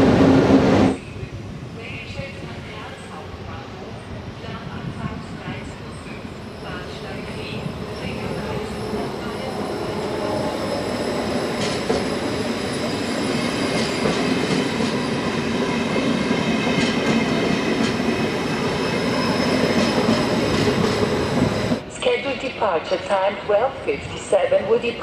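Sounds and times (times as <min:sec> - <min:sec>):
high train whine: 0:00.0 - 0:25.0
train wheels rumbling on rail: 0:00.0 - 0:25.0.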